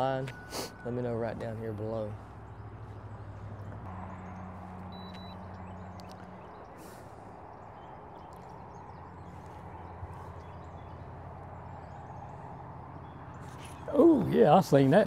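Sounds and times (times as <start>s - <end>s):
faint background rush: 0.0s - 15.0s.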